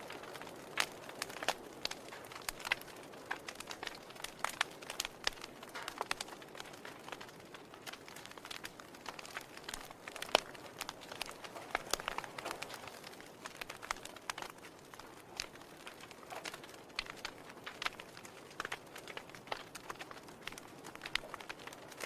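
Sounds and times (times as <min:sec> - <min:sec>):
soft fire hiss: 0:00.0 - 0:22.0
wood fire crackling: 0:00.0 - 0:22.0.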